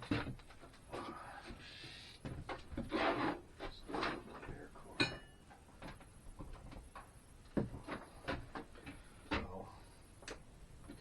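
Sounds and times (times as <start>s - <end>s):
handling noises scraping and rustling: 0.0s - 9.5s.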